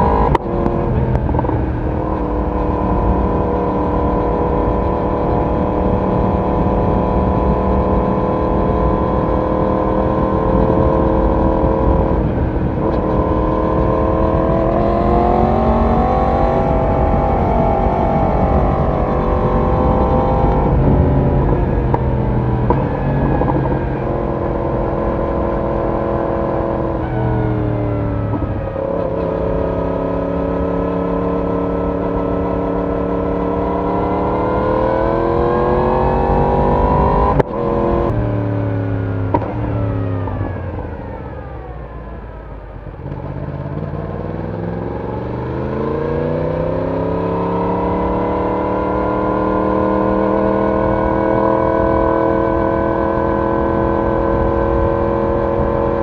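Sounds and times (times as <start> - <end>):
motorcycle engine and exhaust: 0.0 - 56.0.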